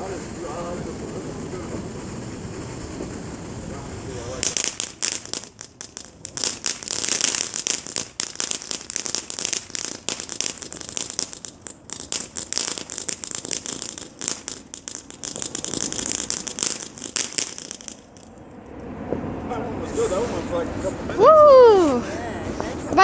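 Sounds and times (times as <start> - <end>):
firework crackling and hissing: 0.0 - 23.0.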